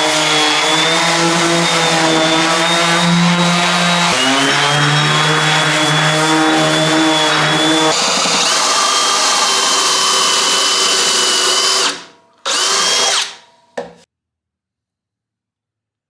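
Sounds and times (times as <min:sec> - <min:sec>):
electric sander motor whine: 0:00.0 - 0:13.4.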